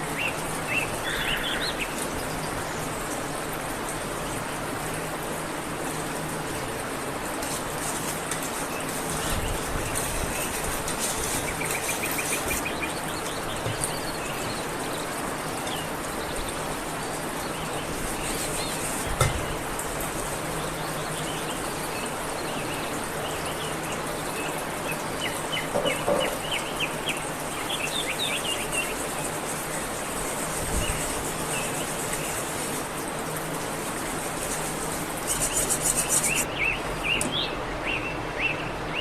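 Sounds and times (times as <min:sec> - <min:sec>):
small birds trilling: 0:00.0 - 0:03.1, 0:07.8 - 0:33.2, 0:33.8 - 0:39.0
steady hiss: 0:00.0 - 0:37.2.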